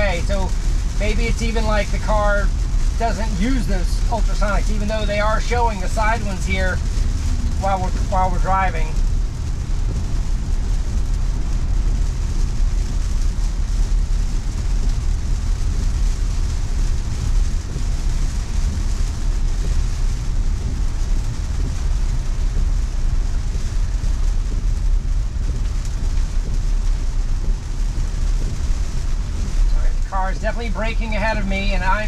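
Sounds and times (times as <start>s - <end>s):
road and tyre noise in car: 0.0s - 32.0s
tyres hissing on wet road: 0.0s - 32.0s.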